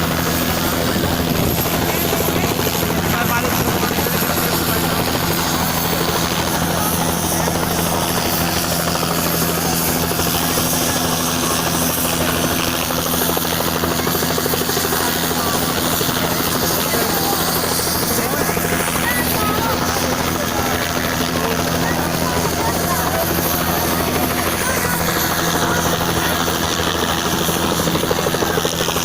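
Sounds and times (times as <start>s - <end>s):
helicopter engine whine: 0.0s - 29.0s
helicopter rotor blades chopping: 0.0s - 29.0s.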